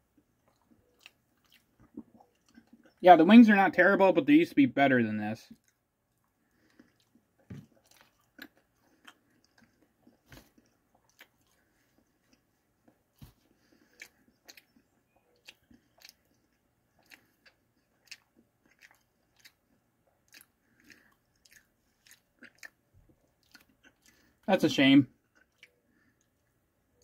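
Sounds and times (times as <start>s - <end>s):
wet chewing mouth clicks: 0.2s - 3.0s, 5.5s - 24.5s, 25.2s - 27.0s.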